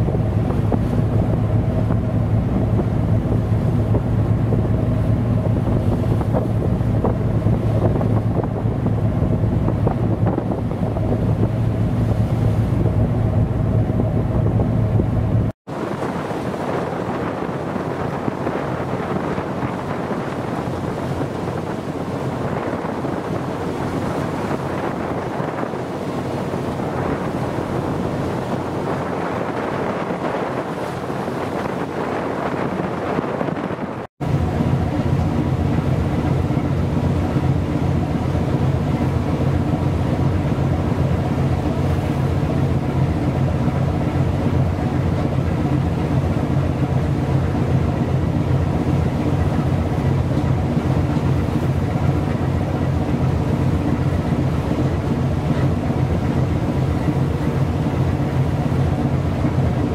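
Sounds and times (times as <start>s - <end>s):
choppy sea: 0.0s - 59.9s
low engine drone: 0.0s - 59.9s
wind buffeting microphone: 0.0s - 59.9s.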